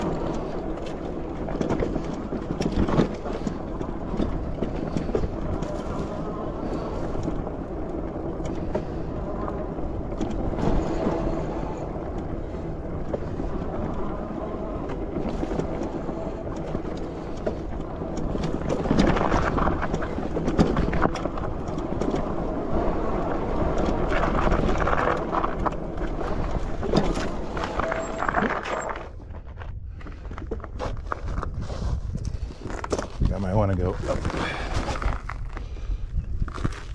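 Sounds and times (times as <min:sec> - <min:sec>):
bike rattling and knocking: 0:00.0 - 0:35.6
tyres on dirt trail: 0:00.0 - 0:36.9.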